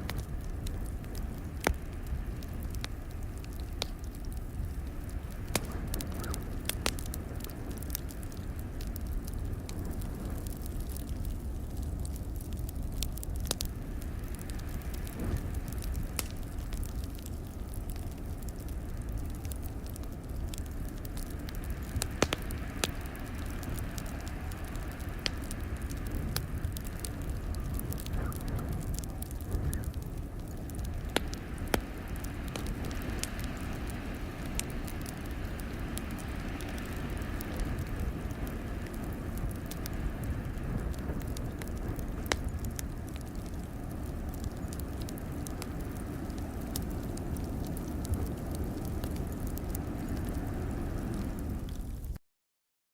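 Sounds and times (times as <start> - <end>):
blizzard wind rumble: 0.0 - 52.2
wood fire crackling and popping: 0.0 - 52.2.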